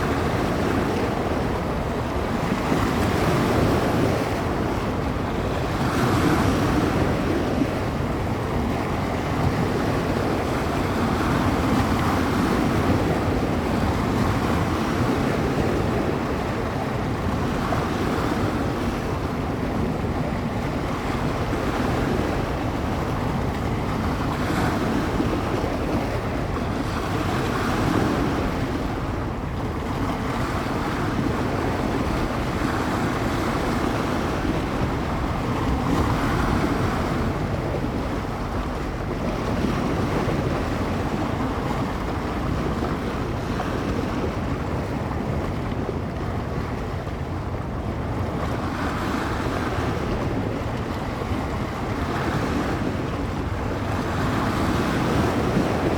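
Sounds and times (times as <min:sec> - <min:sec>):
waves washing on shore: 0:00.0 - 0:55.9
wind buffeting microphone: 0:00.0 - 0:55.9.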